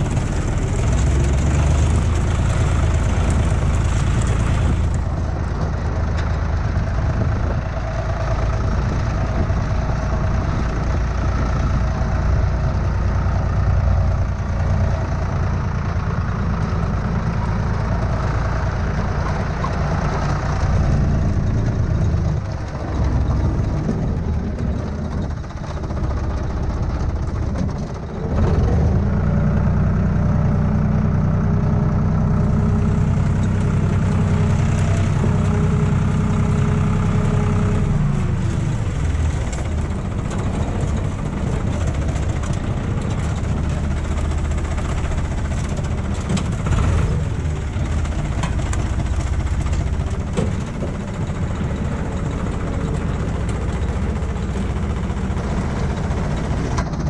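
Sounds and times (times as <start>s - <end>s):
engine knocks: 0.0s - 30.0s, 36.9s - 57.0s
tractor diesel engine running: 0.0s - 57.0s.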